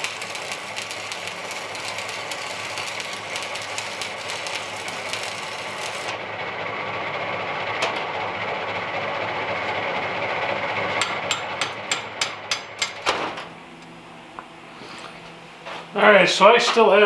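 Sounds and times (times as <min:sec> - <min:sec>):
arc welder crackling: 0:00.0 - 0:17.0.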